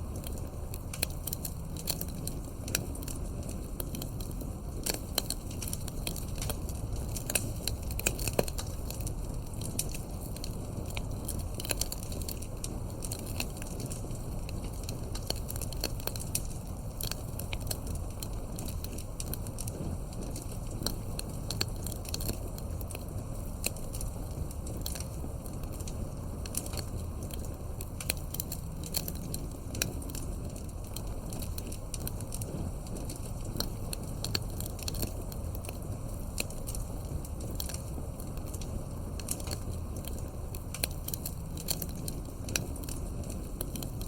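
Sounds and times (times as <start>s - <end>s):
low rumble of flame: 0.0s - 44.0s
wood fire crackling and popping: 0.0s - 44.0s.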